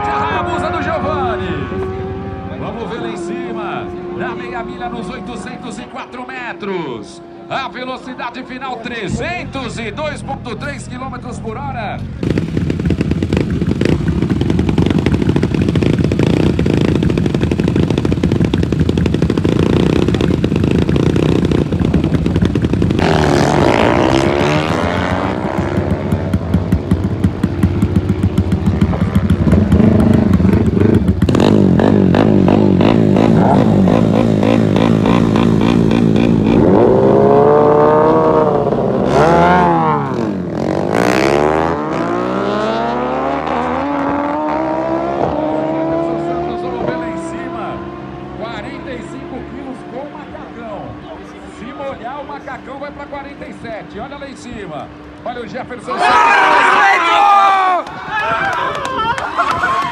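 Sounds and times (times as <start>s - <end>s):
racing motorcycle engines revving: 0.0s - 59.9s.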